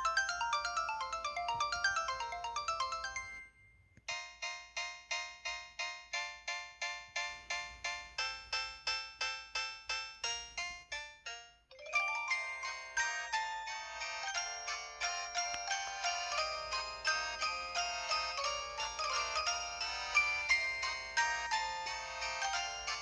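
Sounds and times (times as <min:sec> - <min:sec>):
bell-like phone ringtone melodies: 0:00.0 - 0:05.6, 0:08.2 - 0:23.0.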